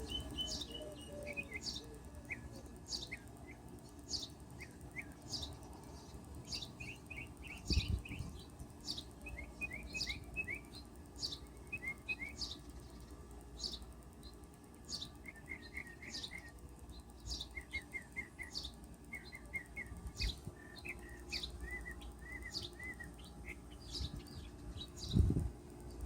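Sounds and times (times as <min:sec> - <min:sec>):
pet bird chirping: 0:00.0 - 0:25.3.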